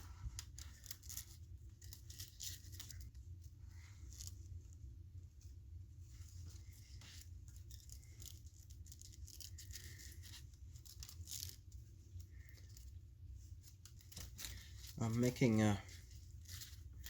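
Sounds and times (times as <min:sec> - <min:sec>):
steady low hum: 0:00.0 - 0:17.0
thread rustling and scratching: 0:00.0 - 0:17.0.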